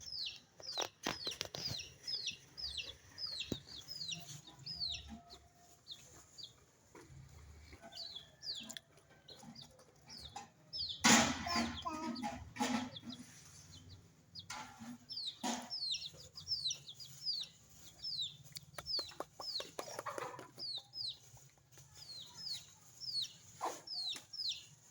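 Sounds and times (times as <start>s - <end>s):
chickens clucking: 0.0s - 24.9s.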